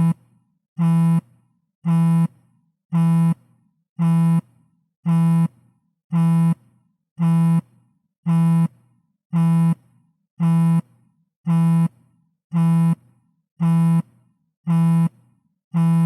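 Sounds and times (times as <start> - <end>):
phone vibrating buzz: 0.0 - 3.4, 4.0 - 16.0.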